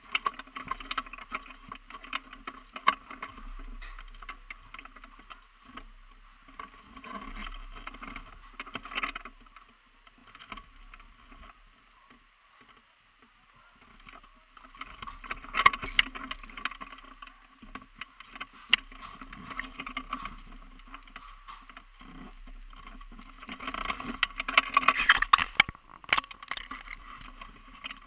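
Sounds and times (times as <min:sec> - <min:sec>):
gear rustling and knocking: 0:00.0 - 0:12.8, 0:13.8 - 0:28.0.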